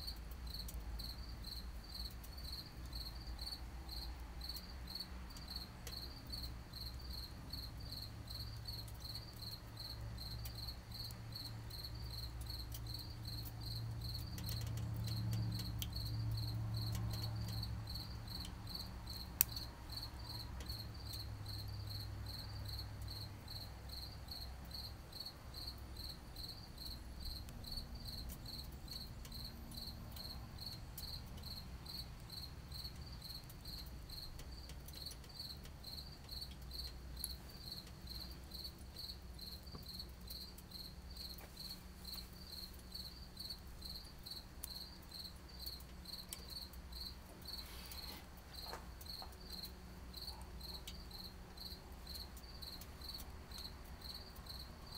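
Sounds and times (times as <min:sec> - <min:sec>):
burning twigs crackling: 0:00.0 - 0:54.9
cricket chirping: 0:00.0 - 0:54.9.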